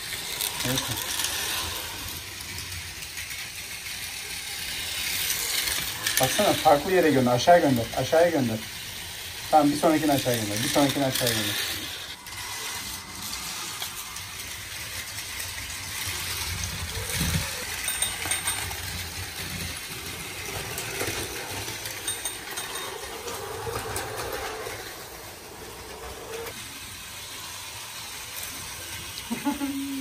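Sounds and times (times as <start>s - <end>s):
toy train motors whirring: 0.0s - 30.0s.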